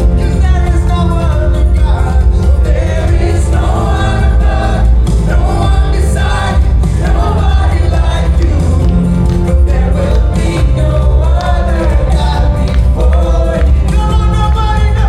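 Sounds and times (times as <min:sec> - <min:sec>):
voices singing: 0:00.0 - 0:15.0
worship band with bass and drums: 0:00.0 - 0:15.0.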